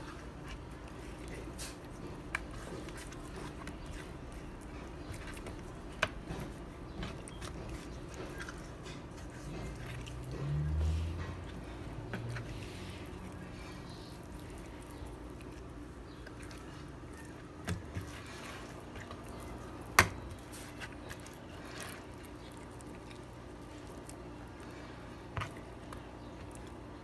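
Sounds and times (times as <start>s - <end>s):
hands squishing wet fish: 0.0s - 27.0s.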